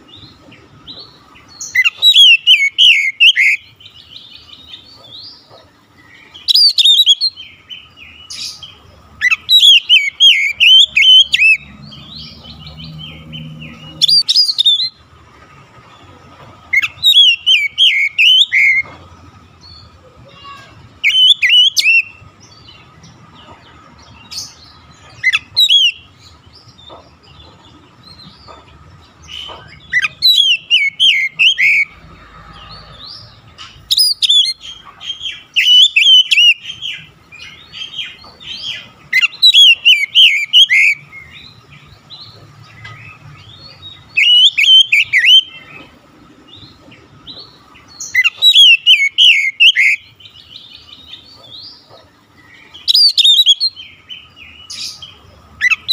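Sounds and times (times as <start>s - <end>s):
bird singing warbling phrases: 0.0s - 15.2s, 15.8s - 55.9s.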